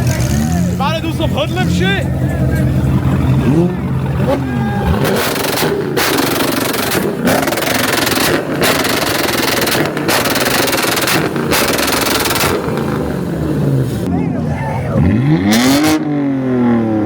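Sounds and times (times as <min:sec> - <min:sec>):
car engine revving through raspy exhaust: 0:00.0 - 0:17.0.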